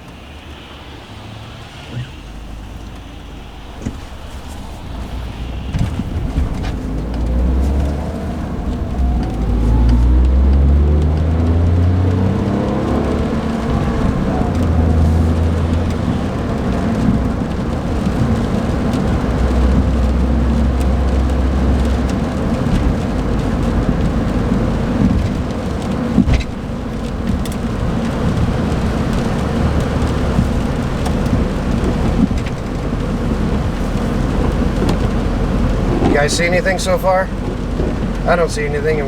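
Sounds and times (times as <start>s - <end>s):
car engine pulling: 0.0s - 39.0s
road and tyre noise: 0.0s - 39.0s.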